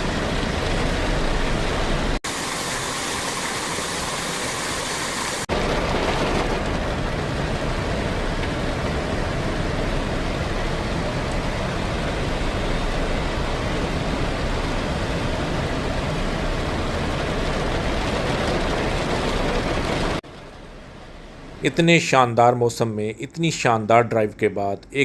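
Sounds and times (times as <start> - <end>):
car engine: 0.0 - 21.7
car tyres rushing on wet road: 0.0 - 21.8
heavy rain: 0.0 - 22.1.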